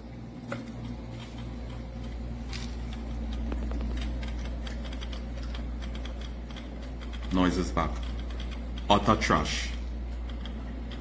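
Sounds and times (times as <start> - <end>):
aquarium pump humming: 0.0 - 11.0
pump ticking and clicking: 0.0 - 11.0.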